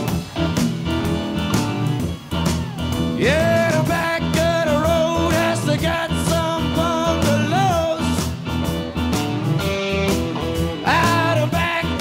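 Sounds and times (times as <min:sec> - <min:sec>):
live blues-rock music: 0:00.0 - 0:12.0.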